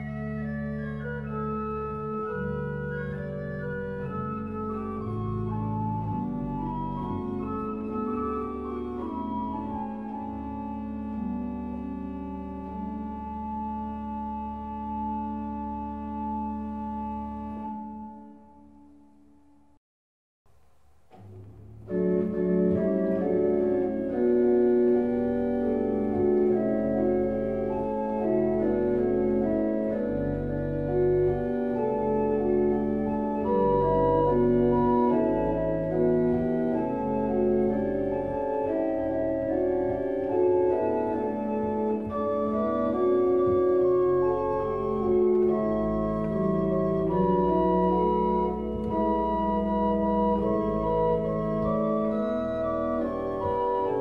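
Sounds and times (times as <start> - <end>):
organ playing held chords: 0.0 - 18.9, 21.1 - 54.0.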